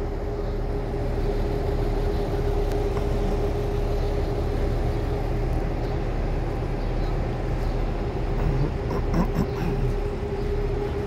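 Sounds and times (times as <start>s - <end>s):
droning hum: 0.0s - 11.0s
rumble of idling vehicles: 0.0s - 11.0s.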